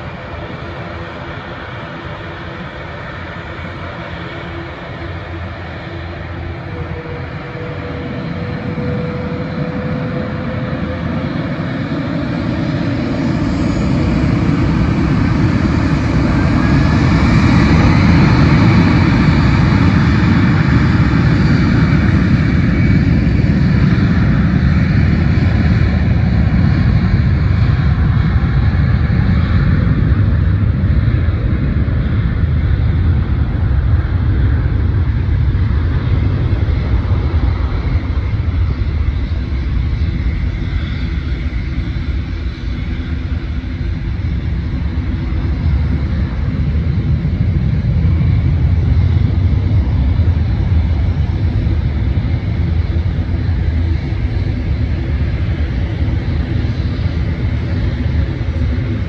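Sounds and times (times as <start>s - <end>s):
jet engines roaring with whine: 0.0s - 59.0s.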